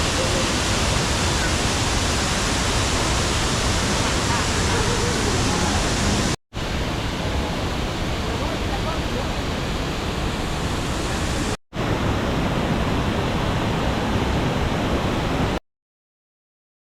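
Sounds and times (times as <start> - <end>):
waterfall roaring: 0.0 - 15.6.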